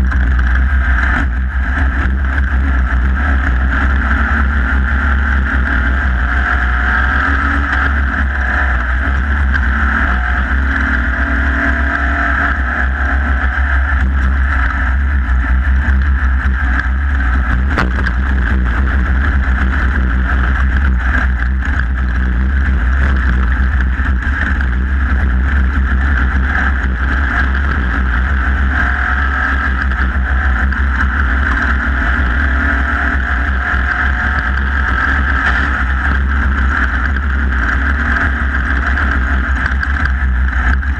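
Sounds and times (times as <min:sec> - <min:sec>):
race vehicle engine running: 0:00.0 - 0:40.9.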